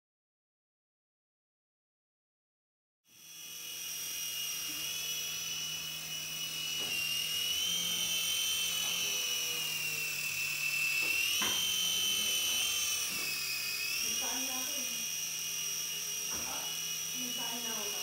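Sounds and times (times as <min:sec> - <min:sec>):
toy helicopter motor whine: 0:03.1 - 0:18.0.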